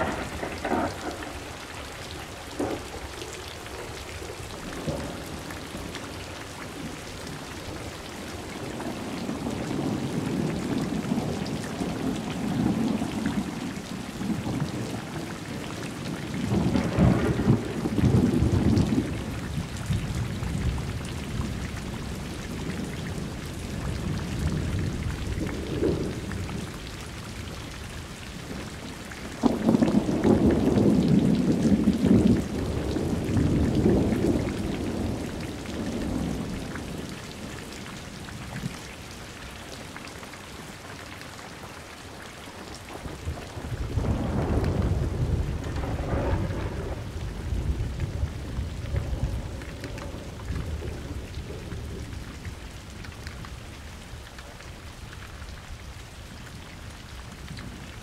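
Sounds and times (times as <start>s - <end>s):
thunder rumbling: 0.0s - 27.6s, 28.4s - 37.8s, 42.9s - 52.7s
steady rain: 0.0s - 58.0s.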